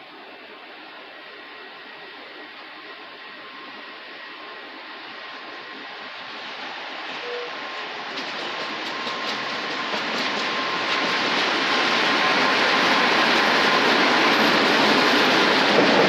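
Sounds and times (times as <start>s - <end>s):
freight train rail rumble: 0.0s - 16.0s.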